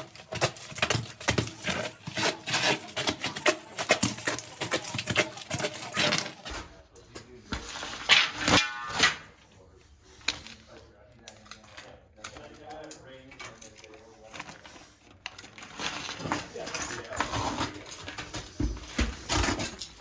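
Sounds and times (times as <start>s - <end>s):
person crawling with knocks and scrapes: 0.0s - 20.0s.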